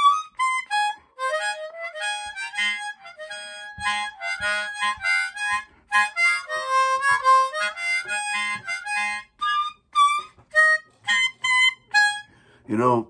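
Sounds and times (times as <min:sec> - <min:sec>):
harmonica playing: 0:00.0 - 0:12.6.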